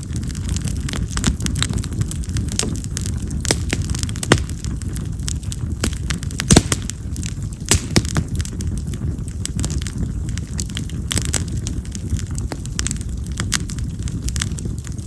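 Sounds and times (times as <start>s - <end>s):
firewood crackling with sharp pops: 0.0s - 15.0s
low fire rumble: 0.0s - 15.0s.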